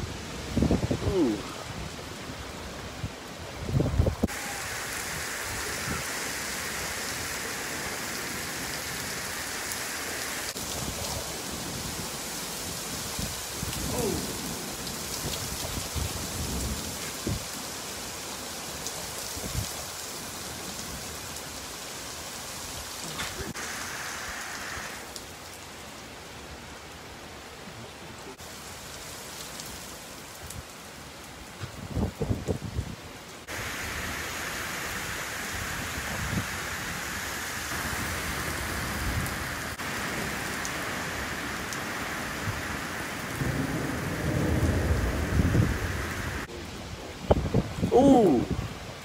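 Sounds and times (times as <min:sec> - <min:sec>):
heavy rain pouring on pavement: 0:00.0 - 0:49.0.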